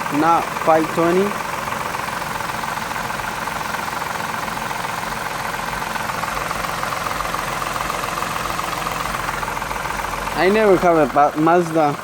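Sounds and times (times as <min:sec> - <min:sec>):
car engine idling with knocking: 0:00.0 - 0:12.0.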